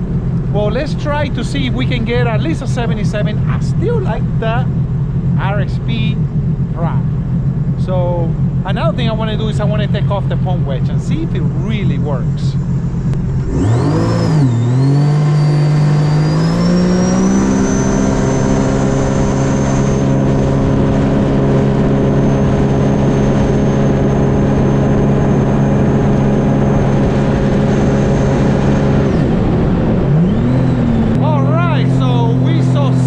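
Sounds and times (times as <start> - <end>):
watercraft engine at full throttle: 0.0 - 33.0.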